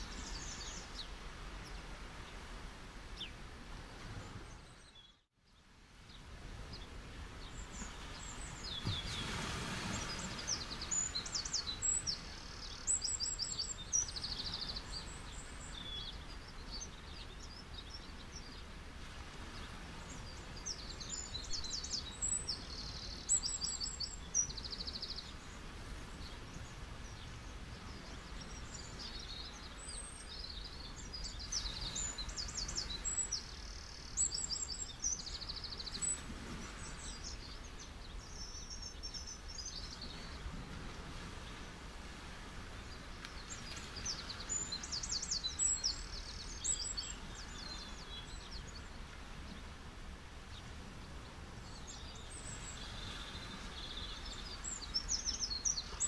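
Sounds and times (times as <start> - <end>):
waves washing on beach: 5.9 - 56.0.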